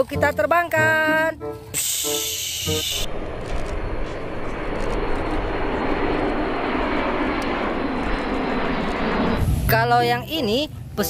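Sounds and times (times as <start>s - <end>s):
jet aircraft flying overhead: 1.6s - 11.0s.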